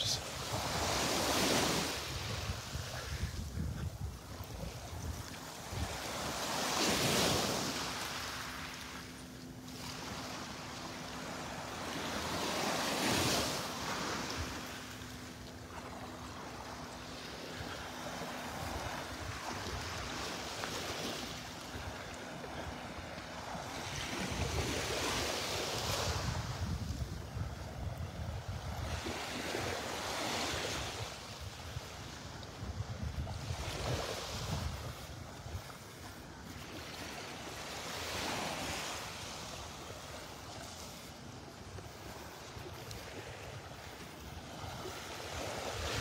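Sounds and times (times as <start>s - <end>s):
wind rumble on microphone: 0.0s - 8.0s, 11.1s - 46.0s
waves washing up on shore: 0.0s - 46.0s.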